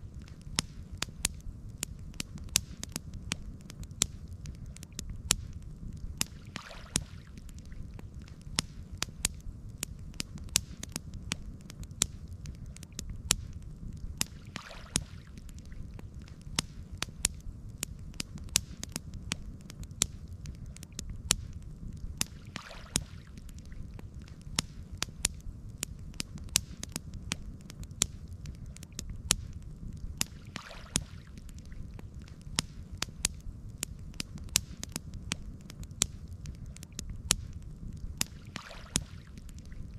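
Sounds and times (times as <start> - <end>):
campfire crackling and popping: 0.0 - 39.9
low rumble of flames: 0.0 - 39.9
soft fire hissing: 0.0 - 39.9.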